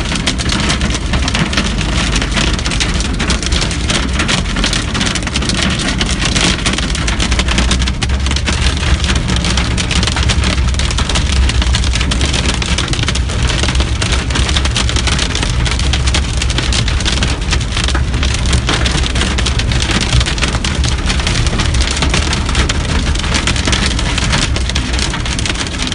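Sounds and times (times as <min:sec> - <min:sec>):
rain and hail on a car roof: 0:00.0 - 0:25.9
steady low rumble: 0:00.0 - 0:25.9.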